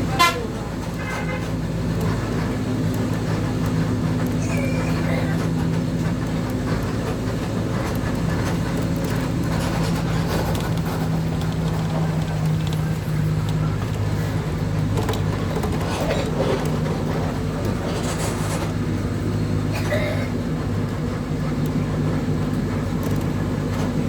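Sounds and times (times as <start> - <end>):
rolling road noise: 0.0 - 24.0
vehicle engine hum: 0.0 - 24.0.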